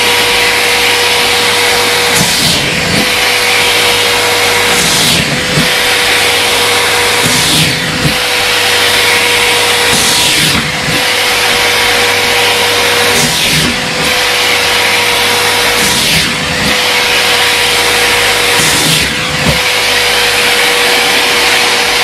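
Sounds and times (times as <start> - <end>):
vacuum cleaner running on carpet: 0.0 - 22.0.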